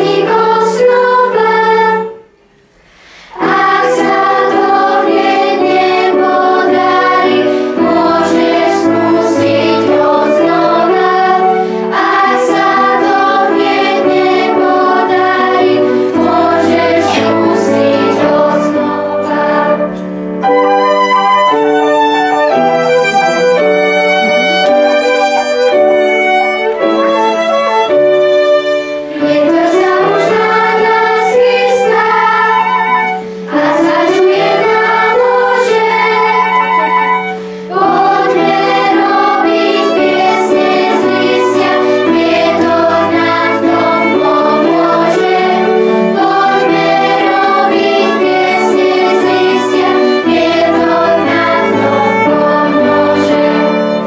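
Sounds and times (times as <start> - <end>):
children's choir singing: 0.0 - 54.0
instrumental accompaniment: 0.0 - 54.0.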